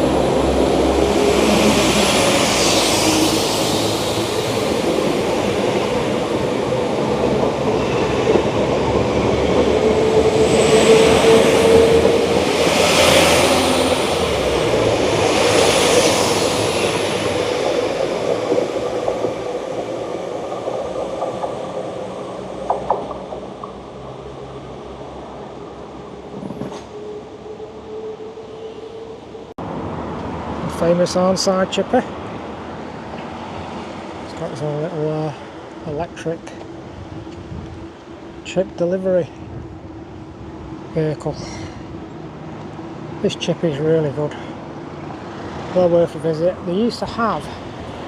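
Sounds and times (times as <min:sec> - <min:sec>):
diesel train passing: 0:00.0 - 0:48.0.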